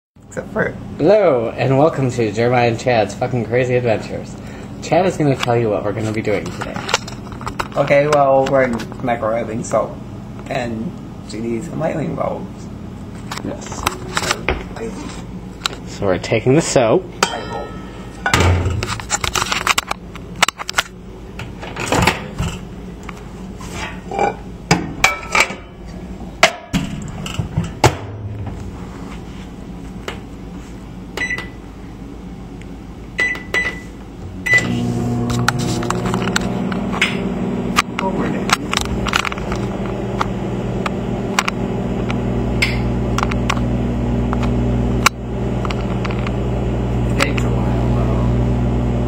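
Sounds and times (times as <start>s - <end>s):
microwave oven humming: 9.2s - 49.0s.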